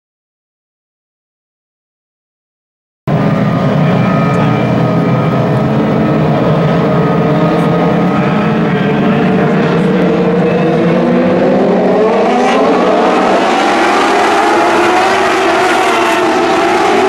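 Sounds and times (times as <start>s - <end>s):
race car engines running: 3.1s - 17.0s.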